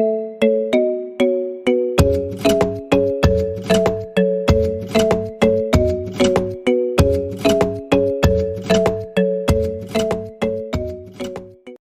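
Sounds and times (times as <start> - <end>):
music with chiming chords: 0.0 - 11.8.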